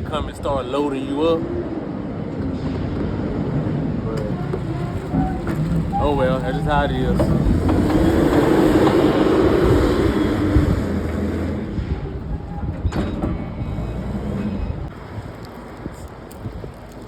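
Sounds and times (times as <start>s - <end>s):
heavy vehicle running: 1.9s - 16.9s.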